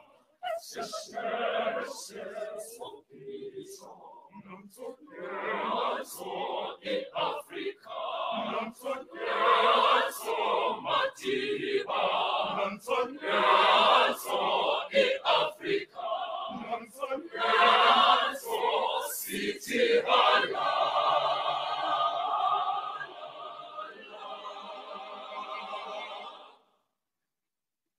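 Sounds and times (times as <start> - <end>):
children's choir singing: 0.0 - 26.6.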